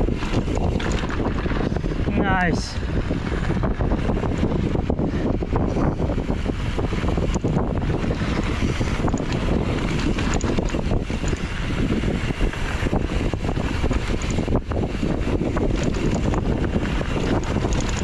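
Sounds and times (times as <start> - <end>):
bike clicks and rattles: 0.0 - 18.0
wind buffeting microphone: 0.0 - 18.0.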